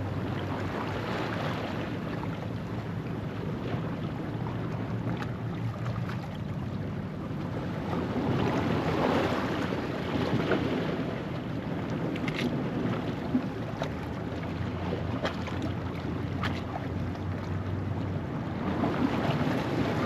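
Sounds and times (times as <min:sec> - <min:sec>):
ocean waves on rocky shore: 0:00.0 - 0:20.0.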